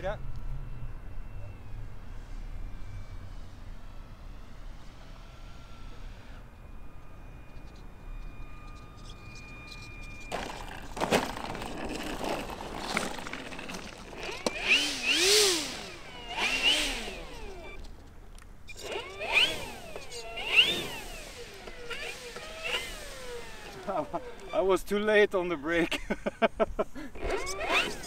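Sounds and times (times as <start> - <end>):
electric model airplane motor: 0.0 - 18.0, 18.6 - 25.9, 27.0 - 28.0.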